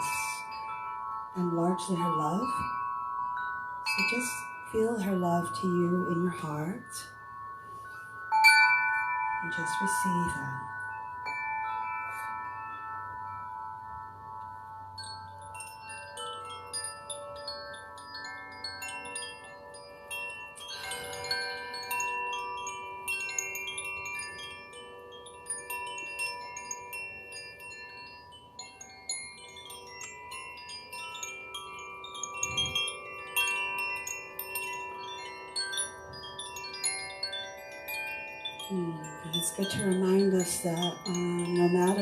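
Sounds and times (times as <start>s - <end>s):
chimes ringing: 0.0s - 42.0s
high tinkling: 0.0s - 42.0s.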